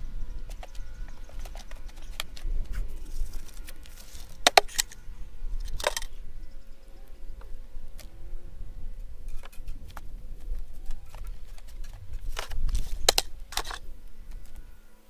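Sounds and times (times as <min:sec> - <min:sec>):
hands rustling in soil: 0:00.0 - 0:14.8.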